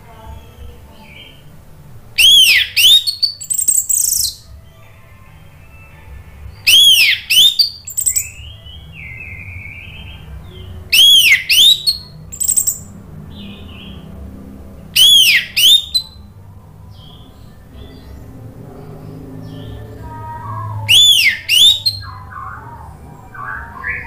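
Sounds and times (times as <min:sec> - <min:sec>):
thrush singing: 0:00.0 - 0:24.0.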